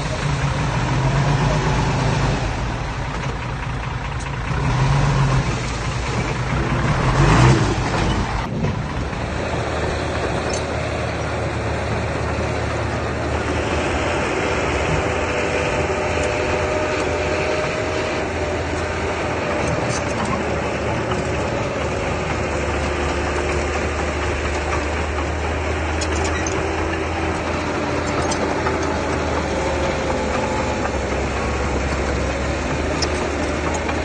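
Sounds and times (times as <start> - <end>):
earthmoving machine diesel engine: 0.0 - 34.0.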